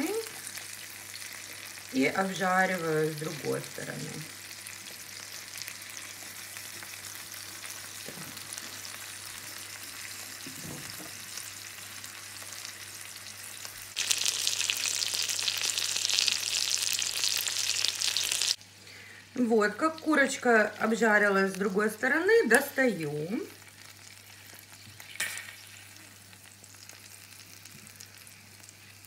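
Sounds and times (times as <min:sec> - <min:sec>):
chicken sizzling in oil: 0:00.0 - 0:19.3, 0:20.0 - 0:29.0.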